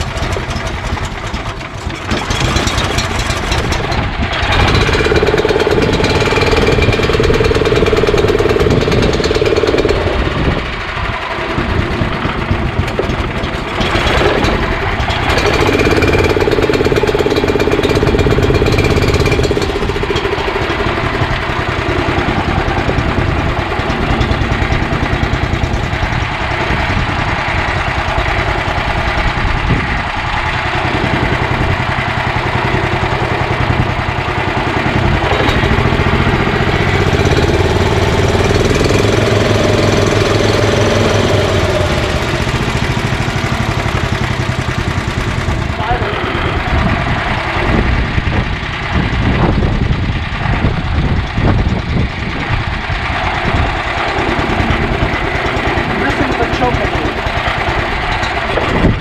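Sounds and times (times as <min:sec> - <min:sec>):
golf cart engine running: 0:00.0 - 0:59.0.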